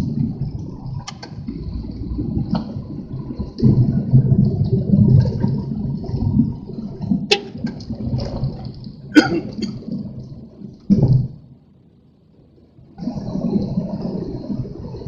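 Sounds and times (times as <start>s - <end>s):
wind buffeting microphone: 0.0s - 11.6s, 12.8s - 15.0s.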